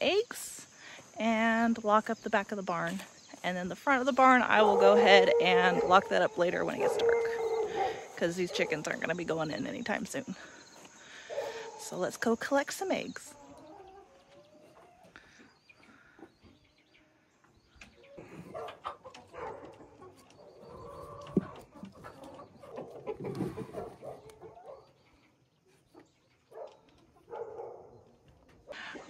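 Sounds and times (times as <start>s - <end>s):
chickens clucking: 2.7s - 29.0s.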